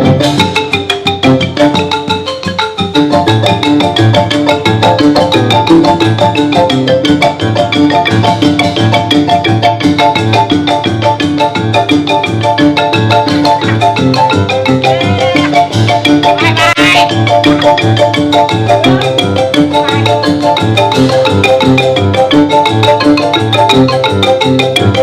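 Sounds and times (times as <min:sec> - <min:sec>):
mallet instrument melody: 0:00.0 - 0:25.0
pulsing bass: 0:02.9 - 0:25.0.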